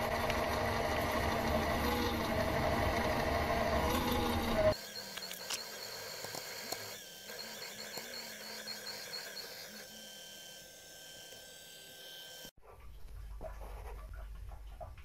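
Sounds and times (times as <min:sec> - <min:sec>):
drill boring into steel whine: 0:00.0 - 0:12.5
metal lathe humming: 0:00.0 - 0:12.5.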